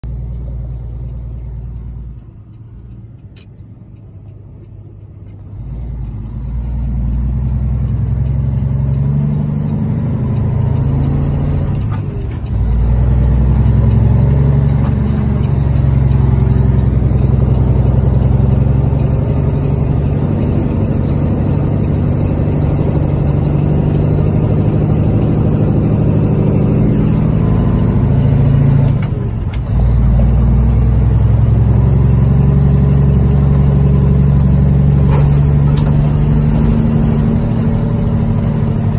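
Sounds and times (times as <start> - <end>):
truck diesel engine droning: 0.0 - 38.9.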